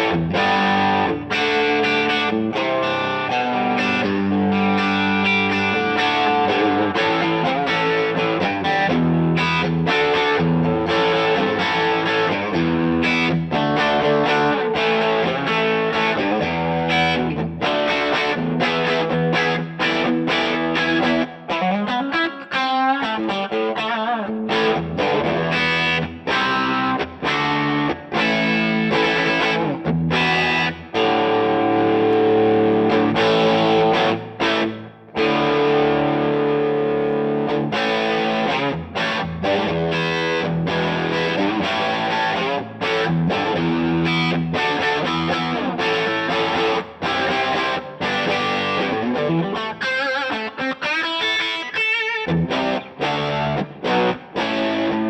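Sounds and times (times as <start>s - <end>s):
distorted electric guitar chords: 0.0s - 55.0s.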